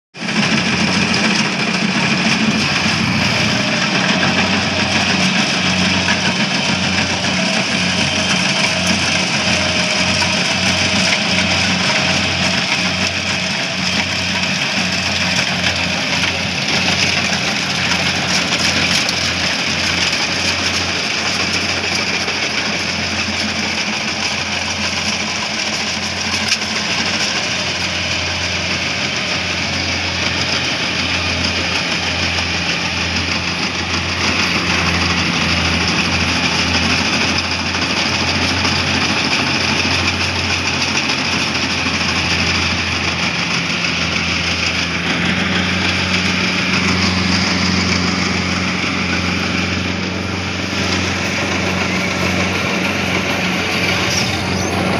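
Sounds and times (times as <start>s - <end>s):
combine harvester engine drone: 0.2s - 54.9s.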